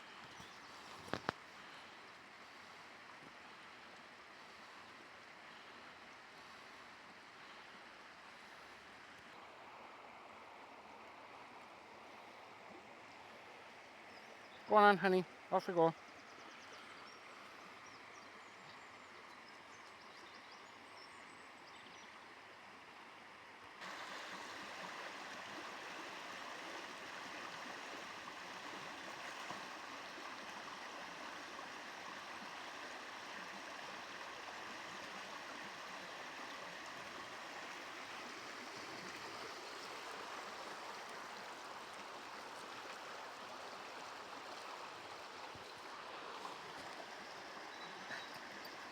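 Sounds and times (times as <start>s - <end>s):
stream water flowing: 0.0s - 48.9s.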